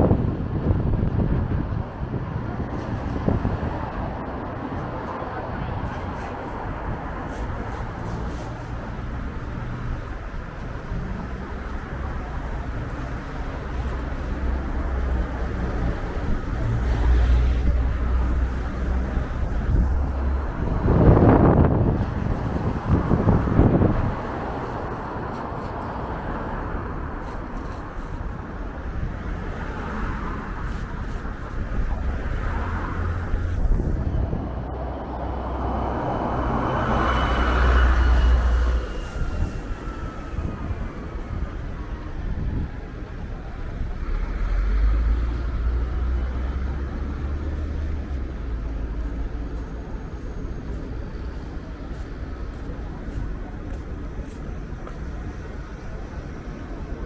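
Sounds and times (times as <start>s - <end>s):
road traffic: 0.0s - 57.0s
wind rumbling on microphone: 0.0s - 57.0s.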